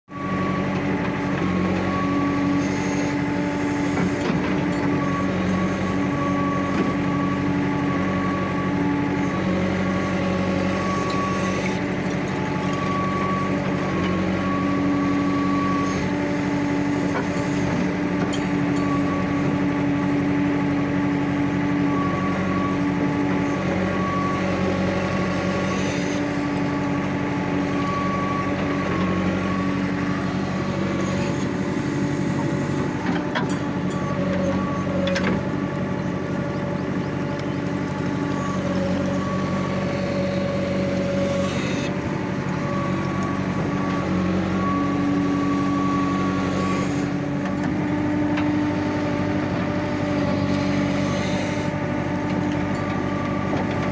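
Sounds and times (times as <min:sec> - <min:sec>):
diesel engine running: 0:00.0 - 0:53.9
hydraulic whine: 0:00.1 - 0:53.9.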